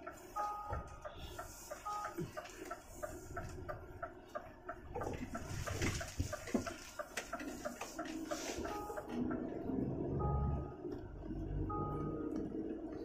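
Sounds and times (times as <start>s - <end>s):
diesel engine rumble: 0.0s - 13.0s
turn signal ticking: 0.0s - 13.0s.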